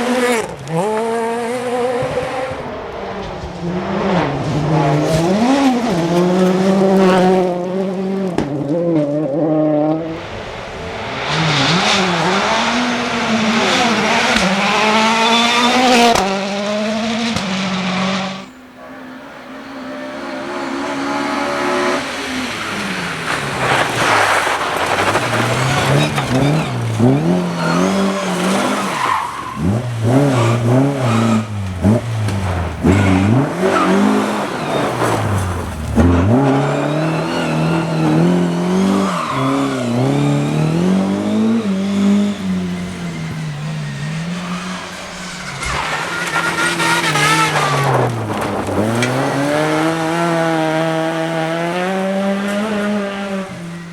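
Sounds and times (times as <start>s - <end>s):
car approaching revving hard: 0.0s - 53.9s
rally car engines revving: 0.0s - 53.9s.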